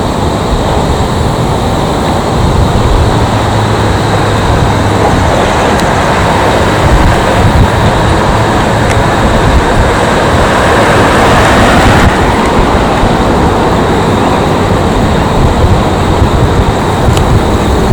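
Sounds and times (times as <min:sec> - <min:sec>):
jet engines roaring: 0:00.0 - 0:17.9.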